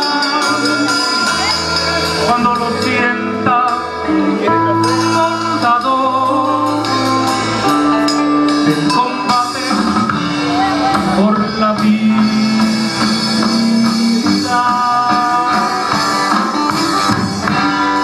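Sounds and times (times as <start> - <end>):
live electric band playing: 0.0 - 18.0
steady drum beat: 0.0 - 18.0.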